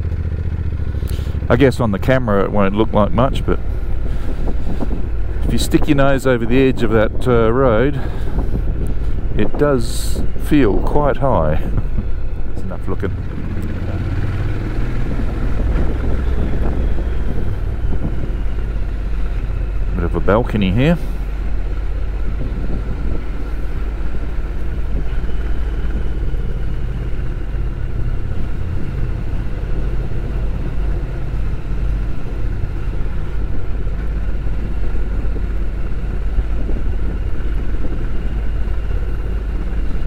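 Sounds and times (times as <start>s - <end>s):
motorcycle engine running: 0.0s - 40.0s
road noise: 0.0s - 40.0s.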